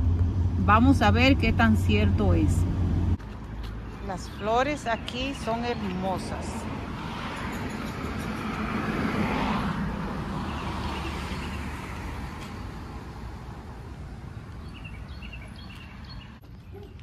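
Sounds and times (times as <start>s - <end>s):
car passing: 0.0s - 16.4s.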